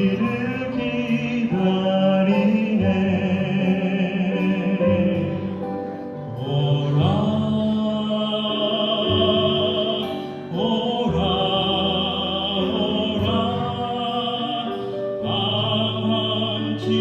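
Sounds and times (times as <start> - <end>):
instrumental accompaniment: 0.0 - 17.0
person singing a hymn: 0.0 - 17.0.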